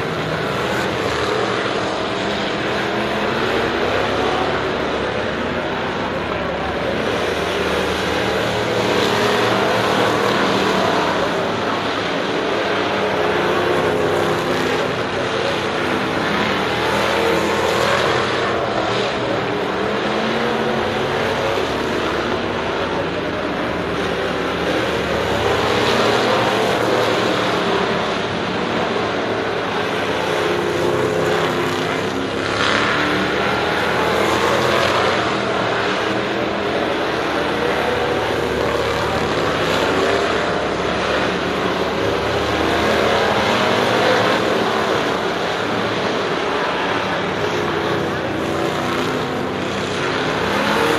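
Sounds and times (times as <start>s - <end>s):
race car engines passing: 0.0s - 50.9s.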